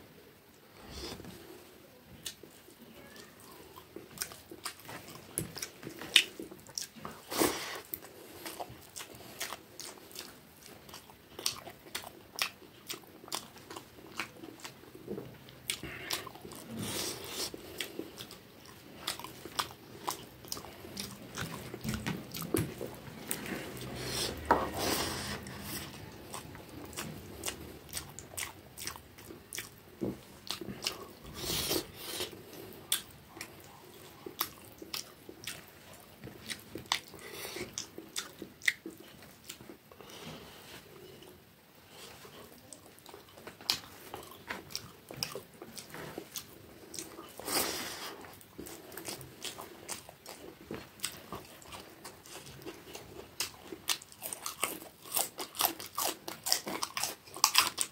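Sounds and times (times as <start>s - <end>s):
person chewing food: 0.5s - 57.9s.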